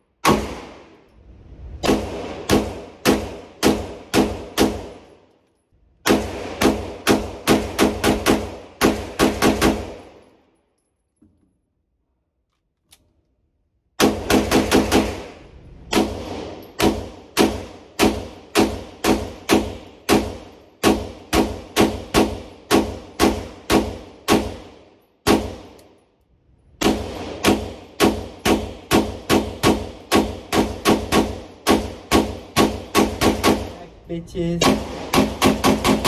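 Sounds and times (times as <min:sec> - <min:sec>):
pistol shots echoing indoors: 0:00.1 - 0:01.1, 0:01.8 - 0:05.4, 0:06.0 - 0:10.7, 0:13.8 - 0:33.8, 0:34.6 - 0:36.0.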